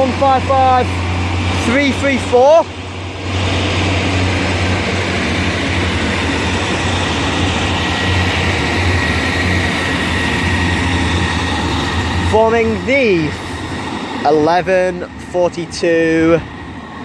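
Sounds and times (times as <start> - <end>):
diesel train engines droning: 0.0 - 17.0
wheel and rail noise: 0.0 - 17.0.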